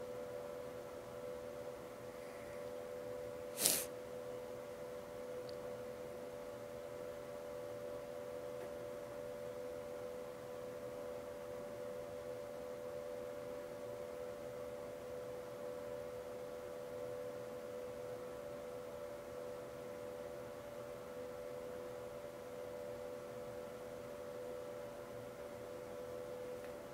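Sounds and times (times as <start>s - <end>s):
steady electrical hum: 0.0s - 26.9s.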